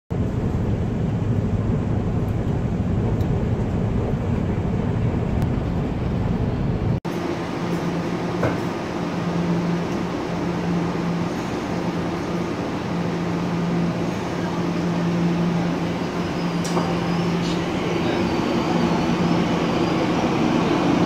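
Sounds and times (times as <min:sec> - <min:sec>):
train hum with low tone: 0:00.1 - 0:21.0
train rumbling from inside: 0:00.1 - 0:21.0.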